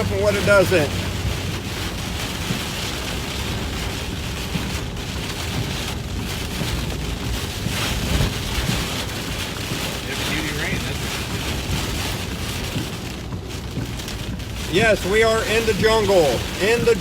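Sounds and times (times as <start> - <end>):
heavy rain on a vehicle: 0.0 - 17.0.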